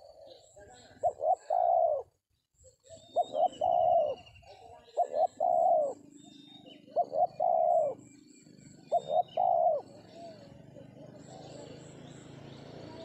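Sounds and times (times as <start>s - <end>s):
dove cooing: 0.0s - 2.2s, 2.8s - 13.0s
small birds chirping: 0.0s - 13.0s.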